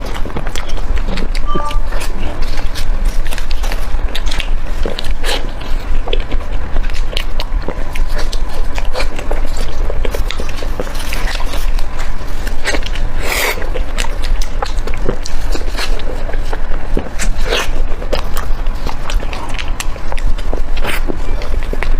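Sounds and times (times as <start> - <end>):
person biting and chewing food: 0.0 - 21.9.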